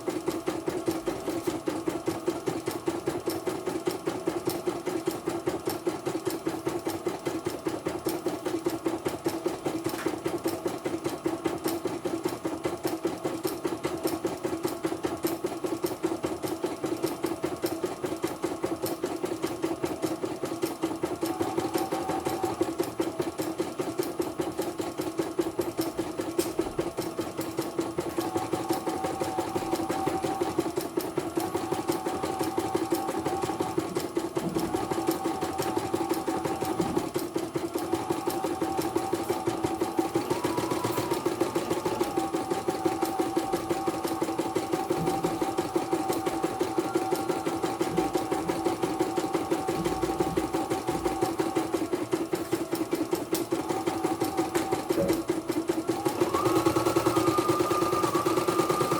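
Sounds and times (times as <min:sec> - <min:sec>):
sewing needle stitching rhythm: 0:00.0 - 0:58.9.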